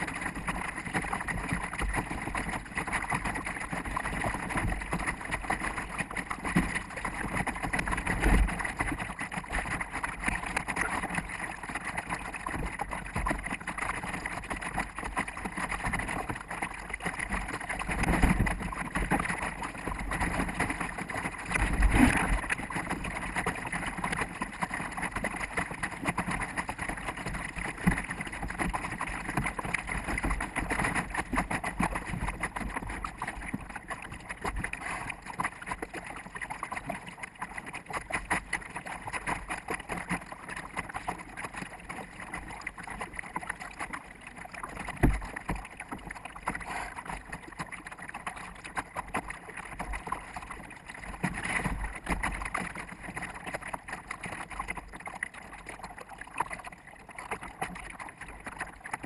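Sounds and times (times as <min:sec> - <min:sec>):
water rushing along hull: 0:00.0 - 0:59.0.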